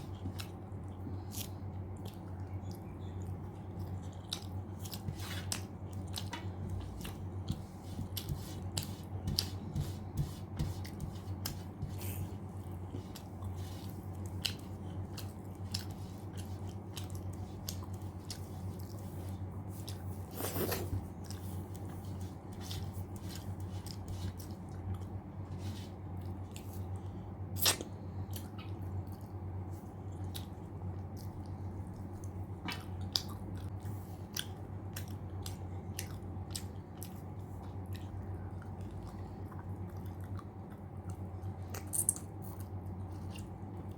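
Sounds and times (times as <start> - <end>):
person chewing food: 0.0 - 43.9
steady low hum: 0.0 - 43.9.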